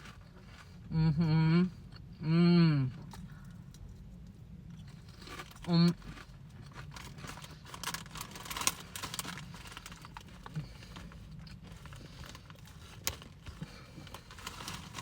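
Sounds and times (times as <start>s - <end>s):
chewing crunchy crisps: 2.9s - 15.0s.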